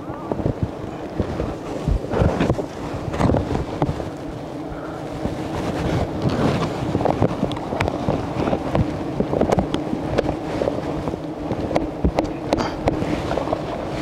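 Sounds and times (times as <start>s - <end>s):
bees buzzing: 0.0s - 14.0s
wind rumble on microphone: 0.0s - 14.0s.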